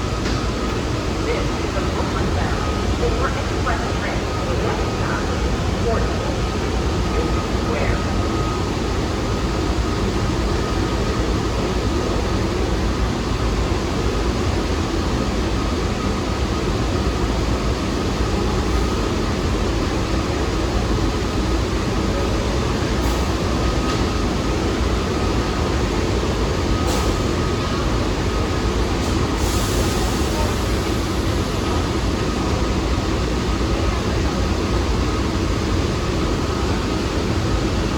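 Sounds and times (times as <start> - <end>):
subway train wheels rumbling on rail: 0.0 - 37.9.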